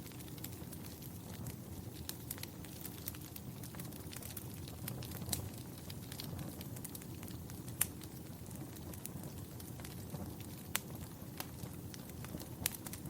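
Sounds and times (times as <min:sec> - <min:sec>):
fire crackling: 0:00.0 - 0:13.0
loud pops of fire: 0:00.0 - 0:13.0.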